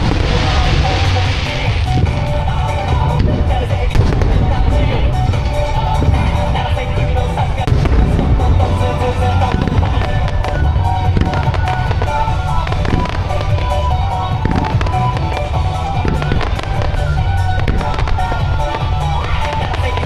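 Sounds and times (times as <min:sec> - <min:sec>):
fireworks bursting and crackling: 0:00.0 - 0:20.0
music: 0:00.0 - 0:20.0.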